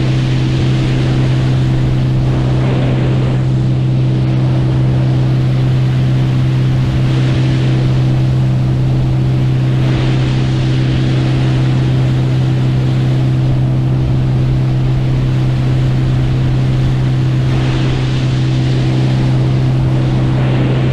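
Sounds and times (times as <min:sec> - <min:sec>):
motorboat engine droning: 0:00.0 - 0:20.9
wind and water rushing: 0:00.0 - 0:20.9.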